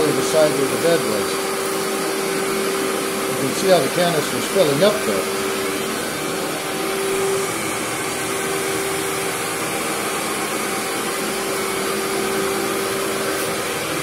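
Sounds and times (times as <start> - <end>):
vacuum cleaner running on carpet: 0.0 - 14.0.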